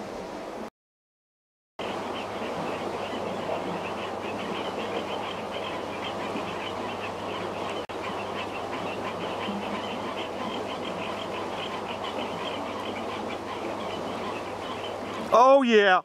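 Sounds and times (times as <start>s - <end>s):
rushing water: 1.8s - 16.0s.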